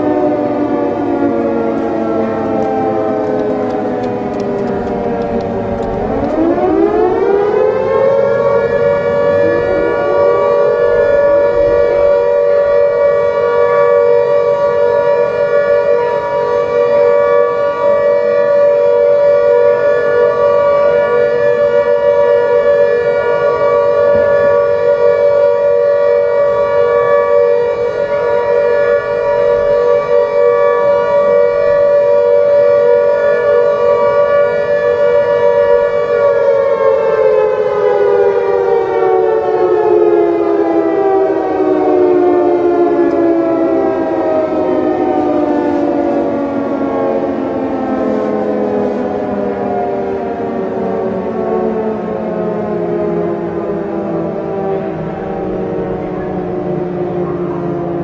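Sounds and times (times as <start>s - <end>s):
siren wailing: 0.0s - 58.0s.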